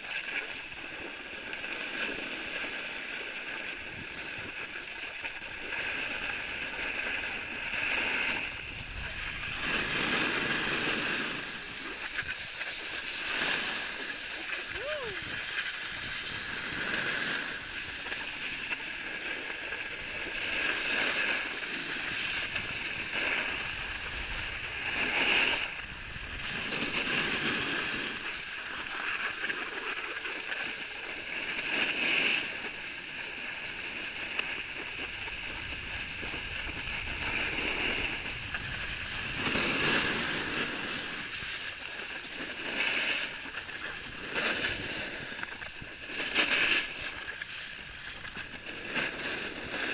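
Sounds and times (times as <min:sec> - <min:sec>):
snow hissing and scraping under skis: 0:00.4 - 0:49.9.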